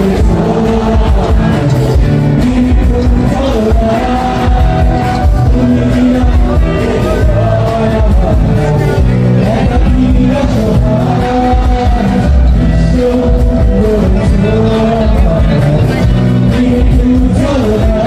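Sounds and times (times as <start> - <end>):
steady beat and bass: 0.0 - 18.0.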